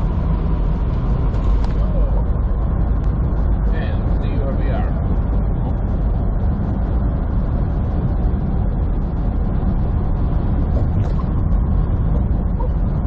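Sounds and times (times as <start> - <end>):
truck cab road and engine rumble: 0.0 - 13.0.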